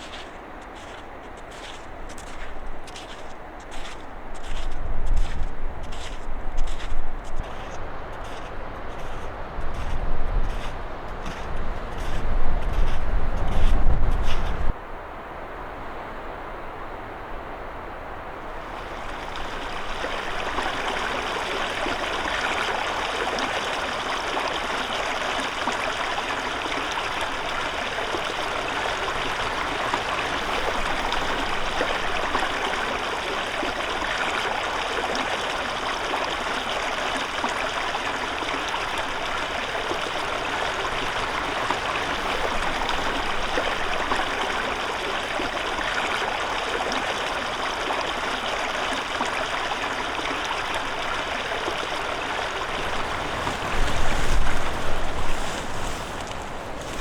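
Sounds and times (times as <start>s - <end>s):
stream of water rushing: 0.0s - 57.0s.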